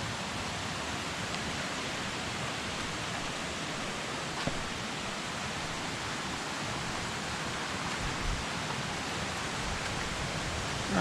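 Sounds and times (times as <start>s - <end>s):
creek water rushing: 0.0s - 11.0s
waterfall: 0.0s - 11.0s.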